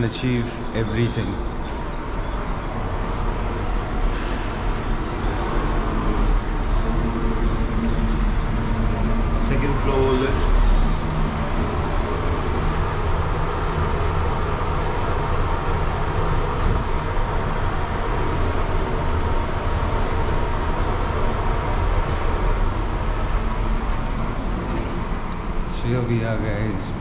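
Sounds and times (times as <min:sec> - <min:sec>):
faint steady whine: 0:00.0 - 0:27.0
lift humming and rushing: 0:00.0 - 0:27.0.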